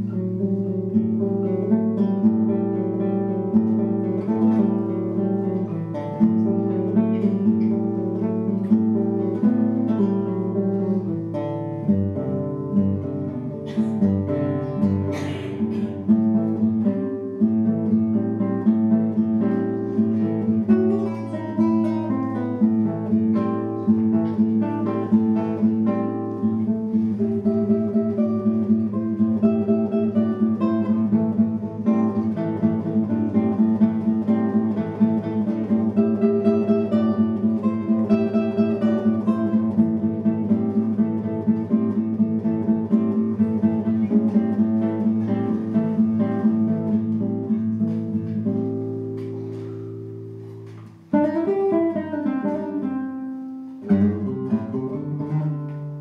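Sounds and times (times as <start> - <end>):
classical guitar playing: 0.0 - 56.0.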